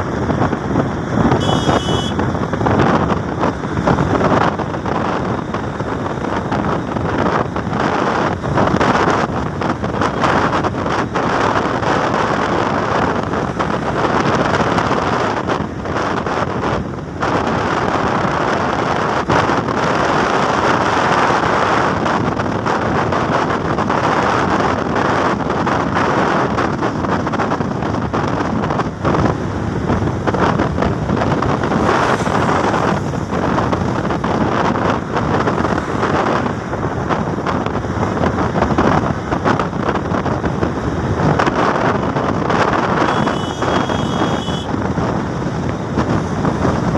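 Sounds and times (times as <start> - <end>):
road and engine noise: 0.0 - 46.9
wind buffeting microphone: 0.0 - 46.9.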